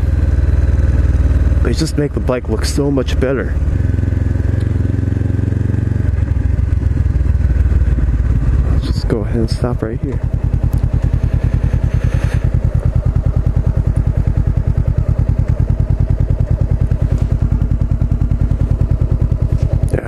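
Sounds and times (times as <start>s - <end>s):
motorcycle engine throbbing: 0.0s - 20.0s.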